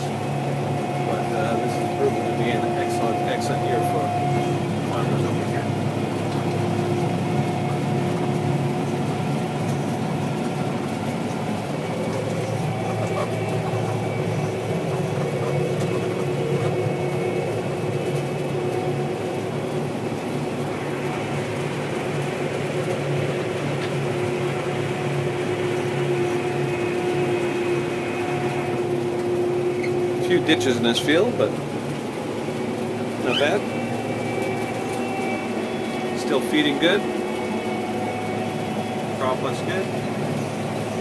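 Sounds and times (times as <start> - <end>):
combine harvester drone: 0.0 - 41.0
steady machine whine: 0.0 - 41.0.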